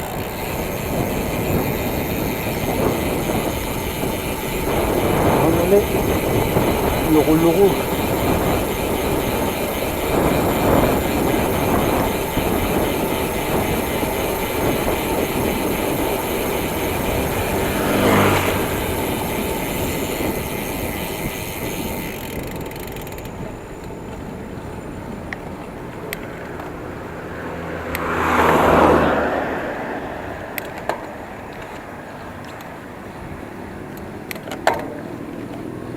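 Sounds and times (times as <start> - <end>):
motor vehicle passing: 0.0 - 35.9
road and wind rush: 0.0 - 35.9.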